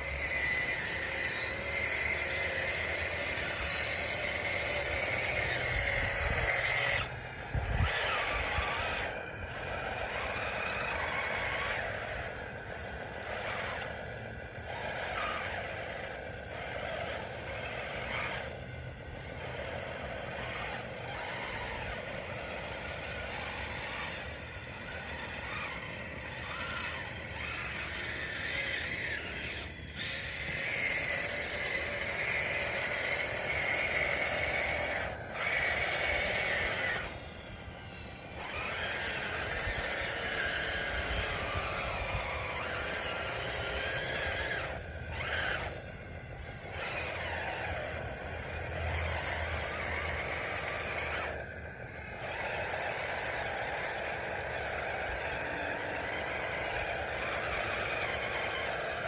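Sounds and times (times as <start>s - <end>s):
toy bulldozer motor whining: 0.0s - 59.0s.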